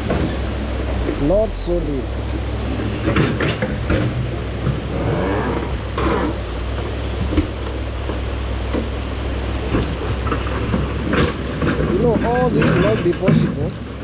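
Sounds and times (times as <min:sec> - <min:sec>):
diesel engine low rumble: 0:00.0 - 0:14.0.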